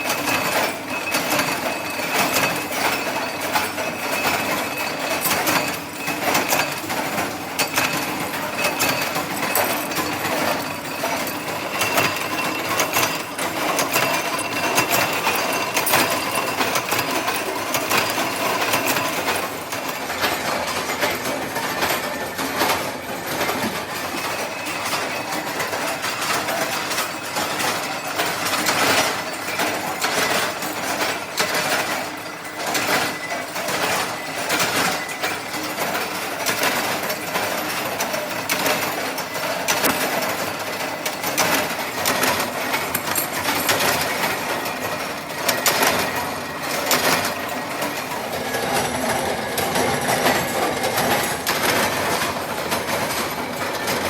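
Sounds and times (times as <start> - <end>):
factory machinery clattering: 0.0 - 54.0.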